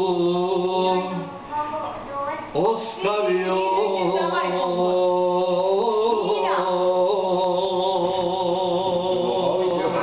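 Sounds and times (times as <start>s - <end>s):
man singing unaccompanied: 0.0s - 1.4s, 2.5s - 10.0s.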